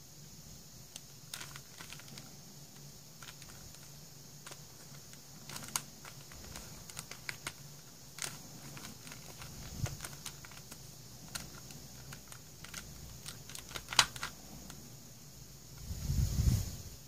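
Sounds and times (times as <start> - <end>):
plastic puzzle clicking: 0.9 - 14.8.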